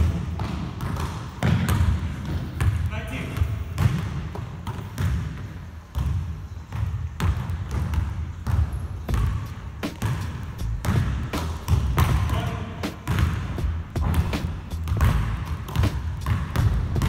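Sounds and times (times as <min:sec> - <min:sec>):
basketball bouncing on wooden floor: 0:00.0 - 0:17.0.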